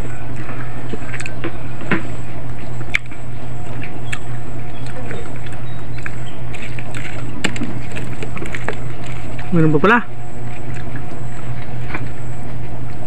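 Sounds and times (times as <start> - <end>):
steady low hum: 0.0 - 13.0
eating clicks and wet squishes: 0.3 - 13.0.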